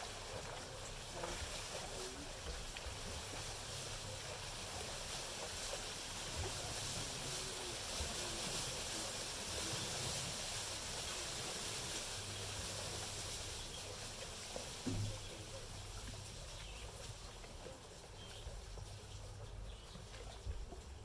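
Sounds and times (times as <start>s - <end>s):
outdoor hiss: 0.0s - 21.0s.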